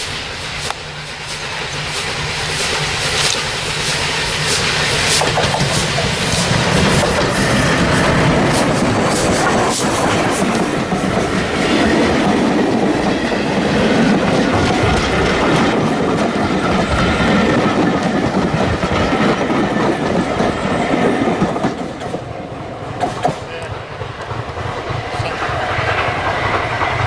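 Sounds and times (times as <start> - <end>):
train wheels clattering over rail joints: 0.7 - 27.0.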